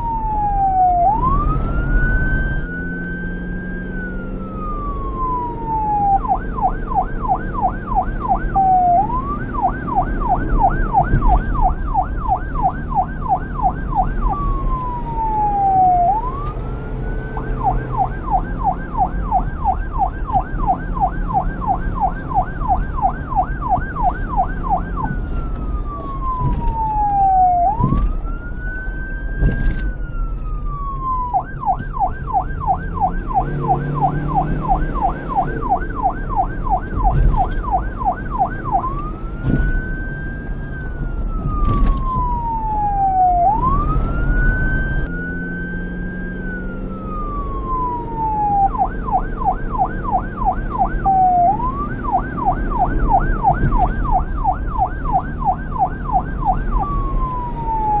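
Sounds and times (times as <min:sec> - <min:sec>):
police siren yelp and wail: 0:00.0 - 0:58.0.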